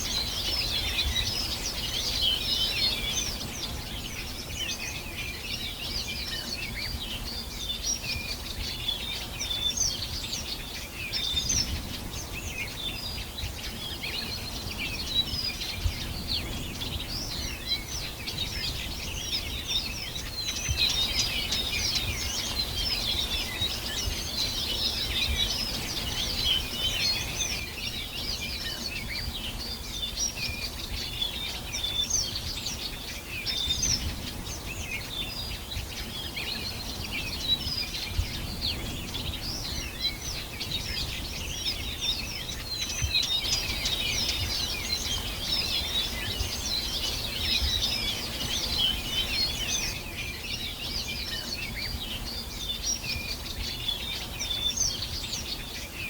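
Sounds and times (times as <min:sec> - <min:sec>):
songbirds chorus: 0:00.0 - 0:56.0.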